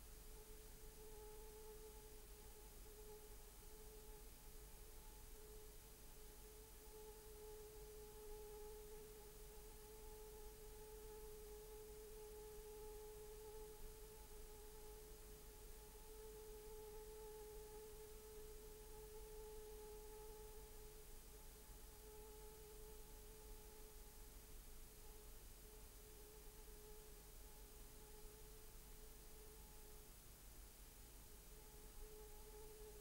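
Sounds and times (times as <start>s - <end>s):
low hiss: 0.0s - 33.0s.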